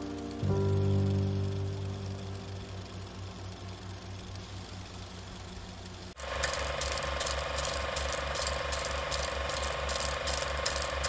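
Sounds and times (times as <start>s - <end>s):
film projector clattering: 0.0s - 11.0s.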